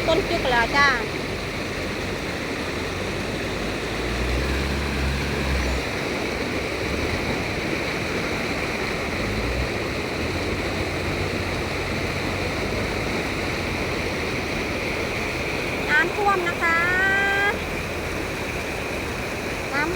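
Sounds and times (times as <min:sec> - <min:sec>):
floodwater rushing: 0:00.0 - 0:19.9.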